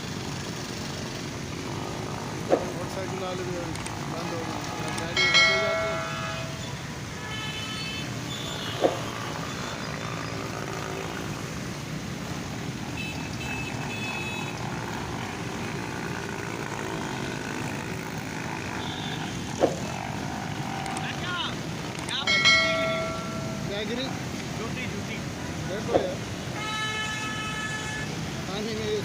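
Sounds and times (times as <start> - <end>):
engine and traffic noise: 0.0 - 29.0.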